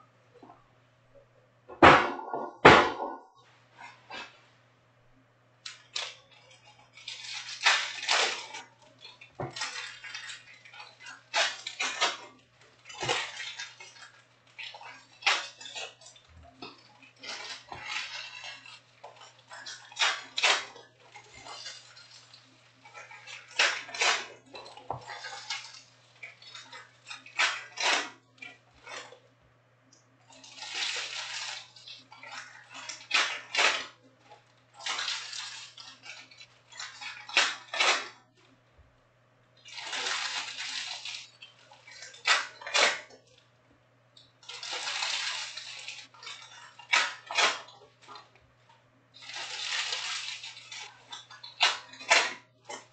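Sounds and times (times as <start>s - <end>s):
foil wrappers crinkling and ripping: 5.6s - 29.2s, 30.2s - 38.5s, 39.6s - 43.4s, 44.2s - 52.9s.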